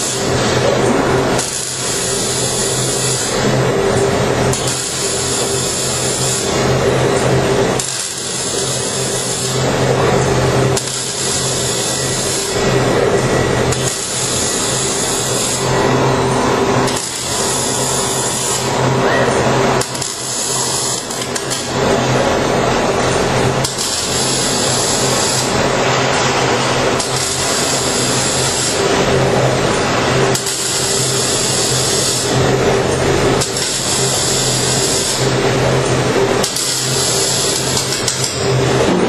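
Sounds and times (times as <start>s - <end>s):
steady electrical hum: 0.0s - 39.0s
welding arc crackling: 0.0s - 39.0s.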